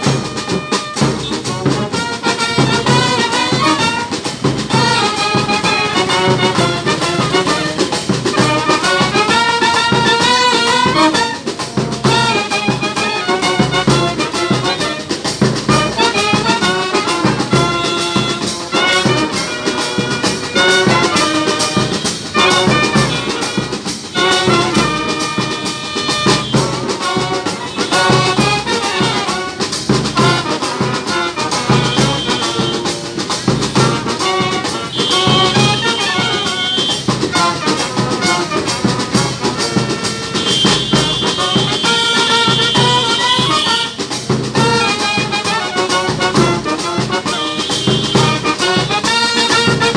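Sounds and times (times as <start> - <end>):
bass drum and snare drum beat: 0.0 - 49.9
trumpets and bass horns: 0.0 - 49.9.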